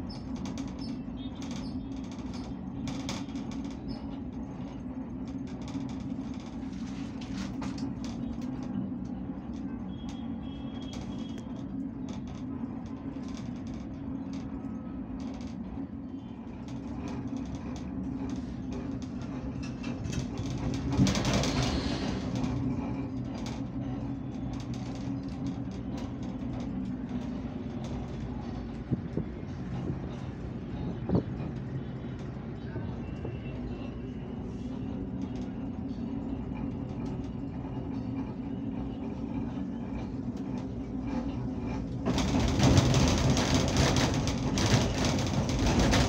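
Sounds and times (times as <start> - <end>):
auto-rickshaw engine running: 0.0 - 46.0
road and traffic noise: 0.0 - 46.0.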